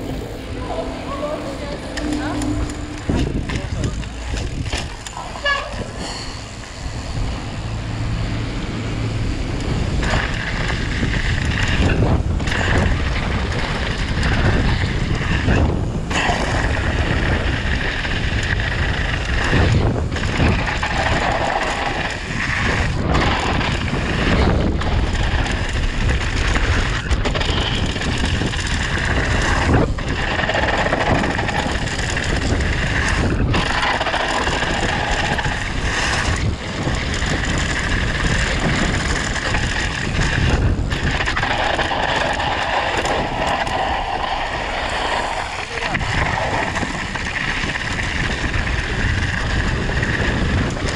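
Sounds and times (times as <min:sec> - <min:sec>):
bike tyres rolling on gravel: 0:00.0 - 0:50.9
wind buffeting microphone: 0:00.0 - 0:50.9.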